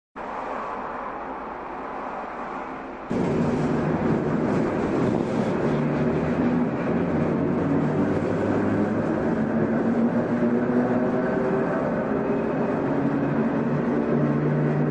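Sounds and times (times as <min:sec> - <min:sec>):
electric train running: 0:02.5 - 0:14.9.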